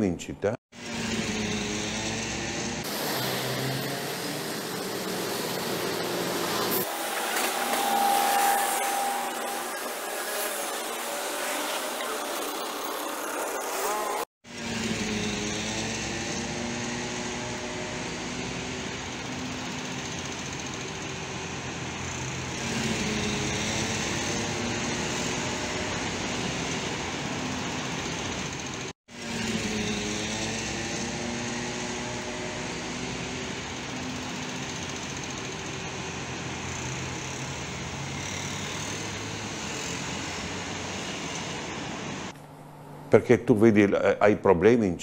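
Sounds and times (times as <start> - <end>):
car and van engines: 0.8 - 42.4.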